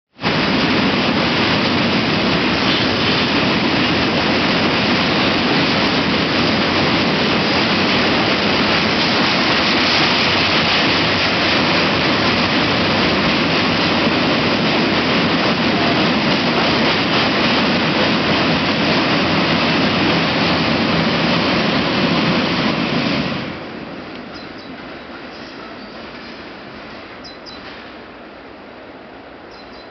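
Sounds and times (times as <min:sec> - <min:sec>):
freight train rushing past: 0:00.2 - 0:29.9.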